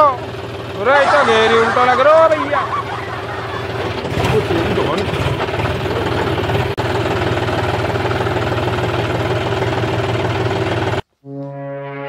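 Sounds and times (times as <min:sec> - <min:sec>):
tractor diesel engine running: 0:00.0 - 0:11.1.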